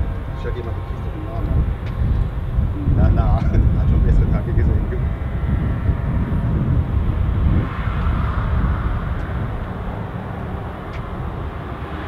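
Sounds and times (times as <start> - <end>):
turboprop aircraft drone: 0.0 - 12.0.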